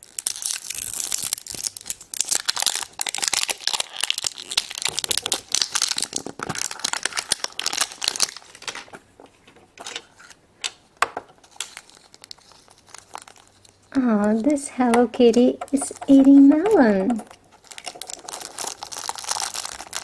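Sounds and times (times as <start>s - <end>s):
wrapper crinkling and tearing: 0.0s - 9.1s, 11.4s - 20.0s.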